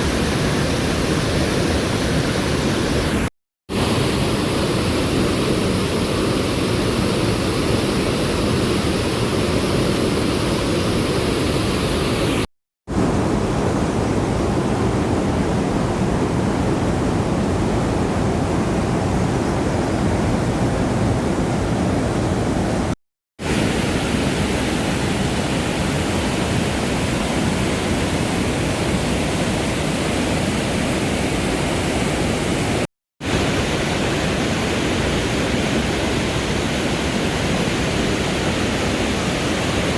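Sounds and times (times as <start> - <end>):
fast-flowing river rushing: 0.0 - 39.9.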